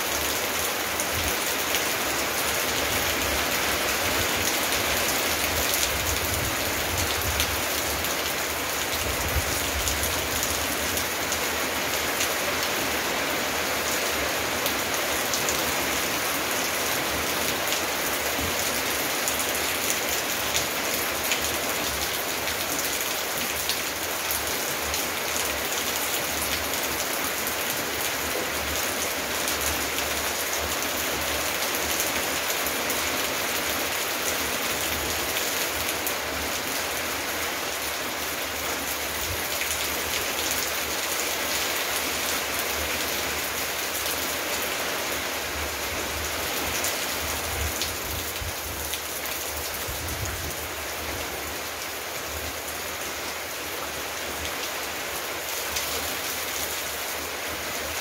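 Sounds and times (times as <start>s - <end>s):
rain on foliage and paving: 0.0s - 58.0s.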